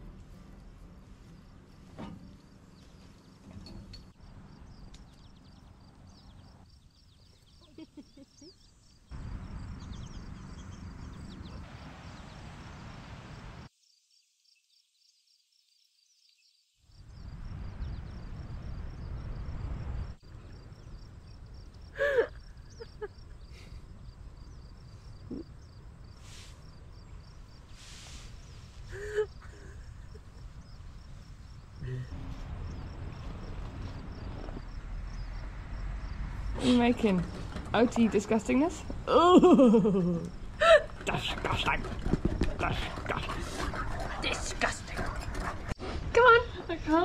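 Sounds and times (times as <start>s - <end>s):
faint rapid insect chirping: 0.3s - 41.4s.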